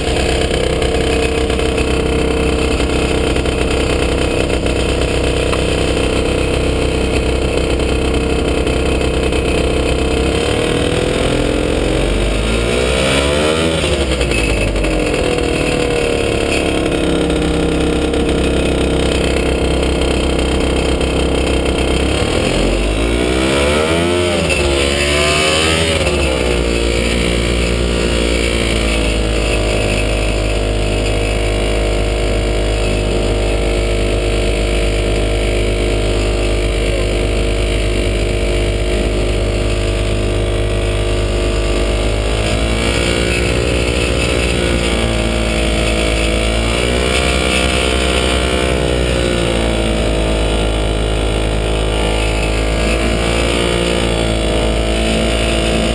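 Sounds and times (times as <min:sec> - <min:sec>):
ultralight plane engine running: 0:00.0 - 0:55.9.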